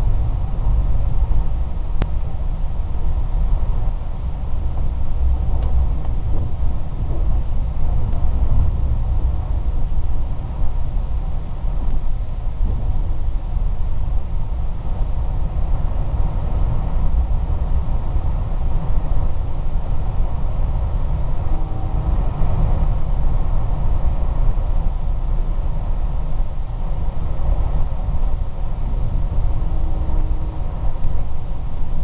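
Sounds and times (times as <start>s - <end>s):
vehicle rumble from inside: 0.0s - 32.0s.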